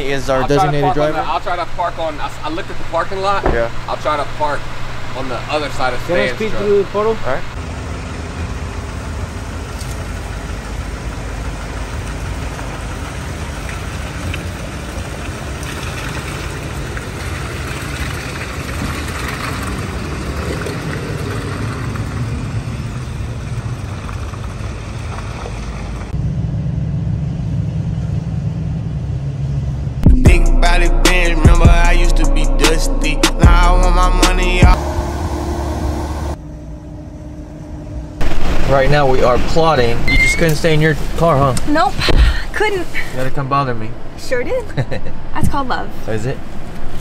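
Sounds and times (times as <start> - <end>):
engine and road noise in car: 0.0 - 32.5, 33.6 - 47.0
vehicle engine running: 0.0 - 42.7.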